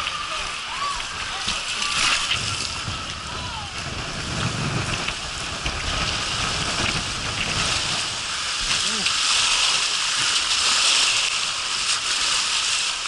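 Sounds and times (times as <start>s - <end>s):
water rushing down a slide: 0.0s - 13.0s.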